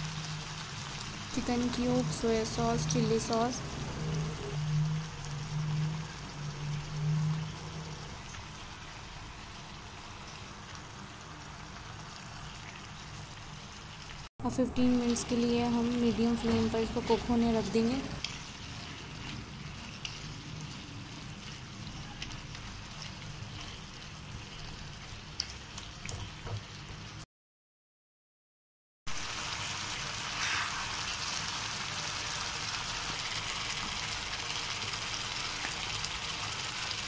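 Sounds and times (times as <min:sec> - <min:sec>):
chicken sizzling in pan: 0:00.0 - 0:14.3, 0:15.5 - 0:27.2, 0:29.1 - 0:37.0.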